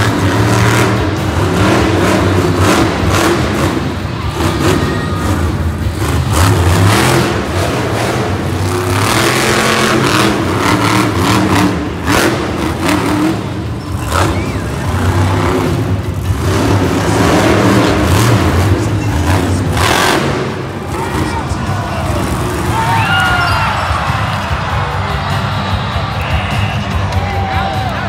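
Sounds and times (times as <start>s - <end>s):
monster truck engine revving: 0.0s - 27.8s.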